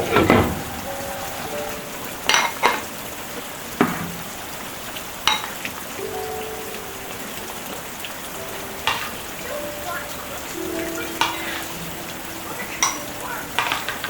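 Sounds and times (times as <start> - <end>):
food sizzling in a frying pan: 0.1 - 14.0.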